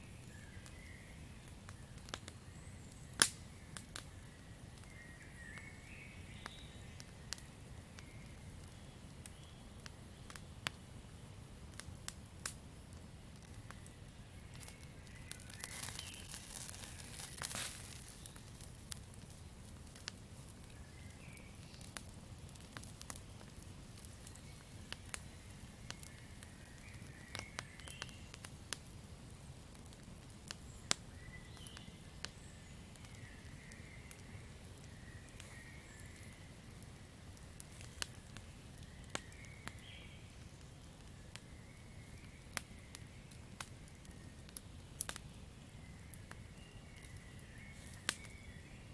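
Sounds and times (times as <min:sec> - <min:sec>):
campfire crackling: 0:00.1 - 0:48.9.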